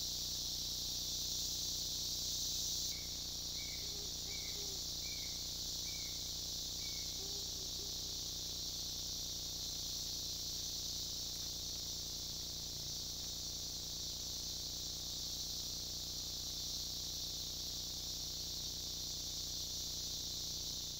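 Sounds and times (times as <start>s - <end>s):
chorus of insects: 0.0s - 20.9s.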